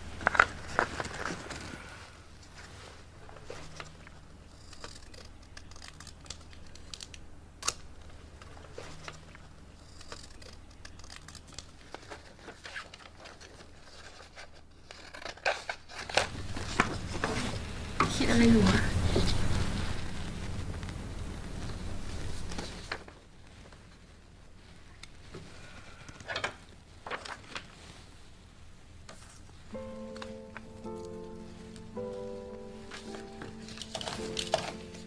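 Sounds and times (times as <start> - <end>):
paper rustling: 0.0 - 7.2, 8.0 - 35.0.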